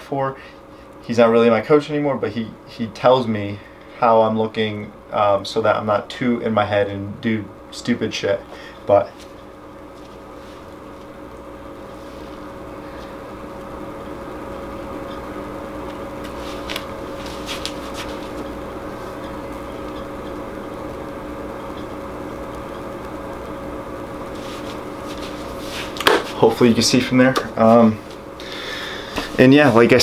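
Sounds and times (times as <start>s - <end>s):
two-tone machine hum: 0.0s - 30.0s.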